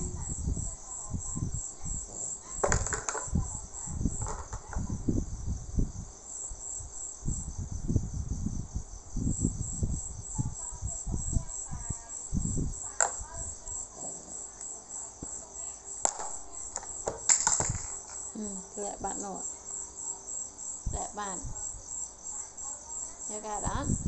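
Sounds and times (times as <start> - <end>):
high pulsing insect-like chirp: 0.0 - 24.0.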